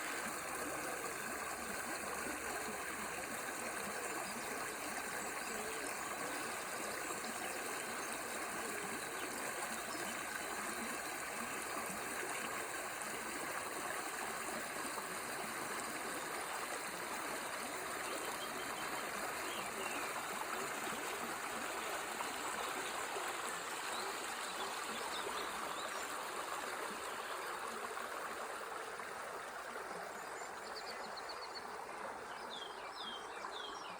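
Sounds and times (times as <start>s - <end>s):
river flowing: 0.0s - 33.9s.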